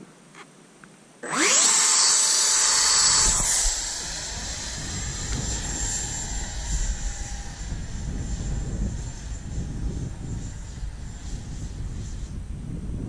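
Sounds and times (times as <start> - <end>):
model jet motor whine: 1.2 - 13.0.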